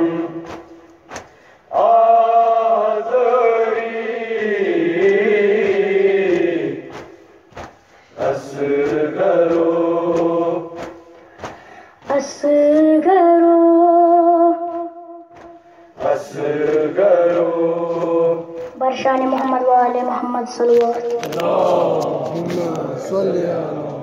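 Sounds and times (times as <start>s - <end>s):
voices chanting a lament: 0.0s - 24.0s.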